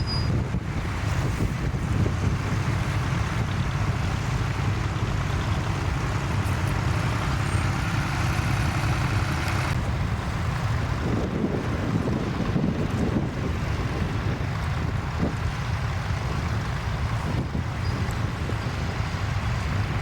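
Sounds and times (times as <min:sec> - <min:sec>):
tractor engine running: 0:00.0 - 0:20.0
wind buffeting microphone: 0:00.0 - 0:20.0.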